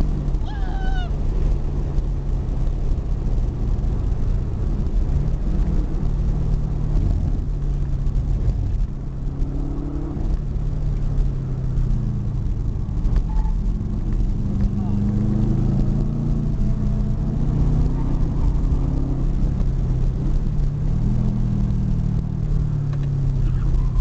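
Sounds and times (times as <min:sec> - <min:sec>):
car engine running: 0:00.0 - 0:24.0
road and wind noise: 0:00.0 - 0:24.0.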